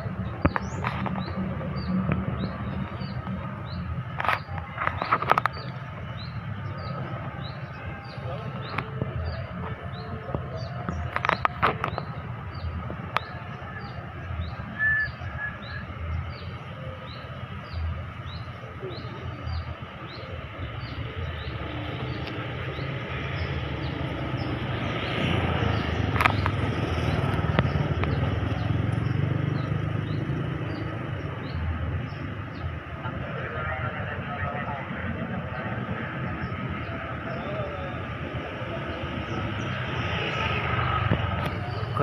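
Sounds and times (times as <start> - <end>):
low vehicle rumble: 0.0 - 42.0.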